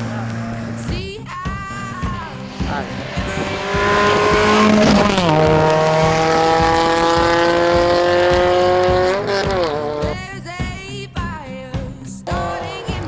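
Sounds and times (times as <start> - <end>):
rally car engine accelerating: 0.0 - 10.3, 12.2 - 13.0.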